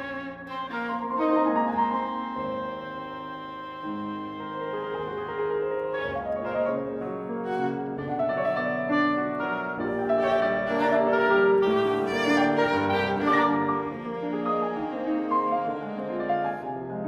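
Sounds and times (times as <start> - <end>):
oboe: 0.0 - 17.0
piano: 0.0 - 17.0
viola: 0.0 - 17.0.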